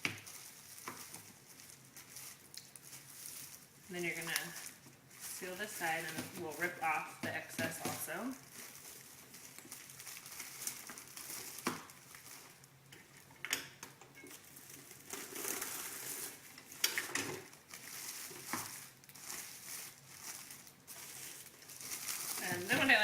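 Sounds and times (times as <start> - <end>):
plastic film tearing: 0.0 - 7.1, 7.8 - 12.8, 14.4 - 23.0
plastic film crinkling: 0.0 - 23.0.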